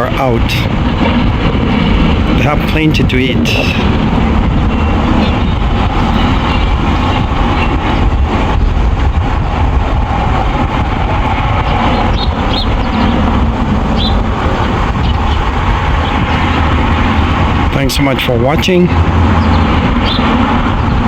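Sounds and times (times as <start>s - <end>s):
loud outdoor rumble: 0.0s - 21.0s.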